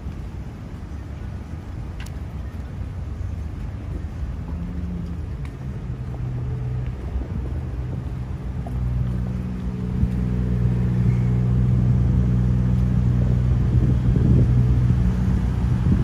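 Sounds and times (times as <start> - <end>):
road traffic engine hum: 0.0 - 16.0.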